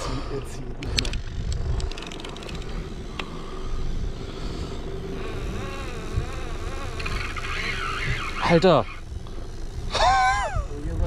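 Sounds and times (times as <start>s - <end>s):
boat engine idling: 0.0s - 11.0s
fishing reel whine: 0.0s - 11.0s.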